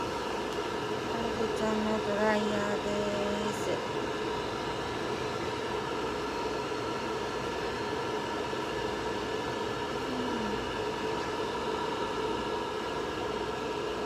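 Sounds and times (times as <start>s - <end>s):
electric dryer blowing air: 0.0s - 14.0s.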